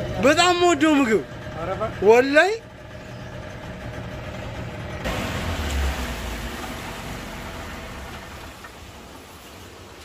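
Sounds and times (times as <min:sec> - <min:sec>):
outboard motor running: 0:00.0 - 0:09.3
water rushing along hull: 0:00.0 - 0:10.0.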